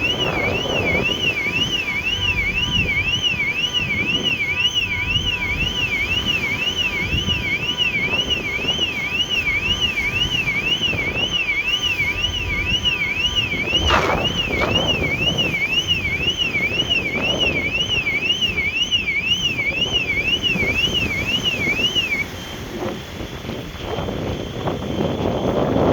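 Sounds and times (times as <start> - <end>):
warbling electronic alarm: 0.0 - 25.9
wind and engine rumble: 0.0 - 25.9.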